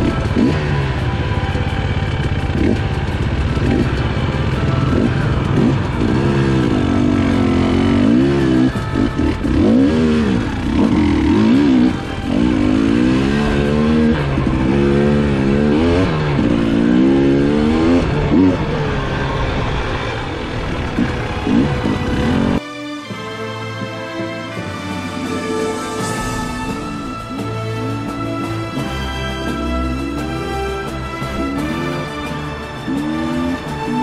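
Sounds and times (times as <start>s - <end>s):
dirt bike engine revving: 0.0s - 22.6s, 25.9s - 34.0s.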